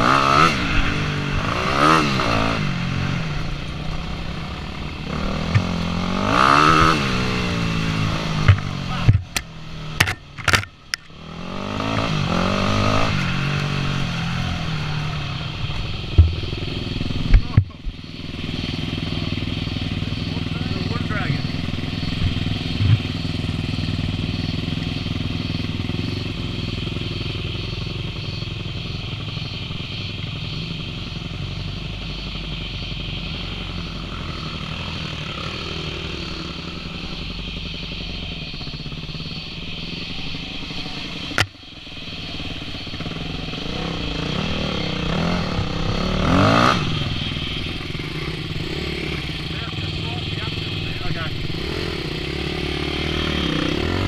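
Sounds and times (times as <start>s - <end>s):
dirt bike engines idling: 0.0s - 54.0s
engine revving: 0.0s - 54.0s.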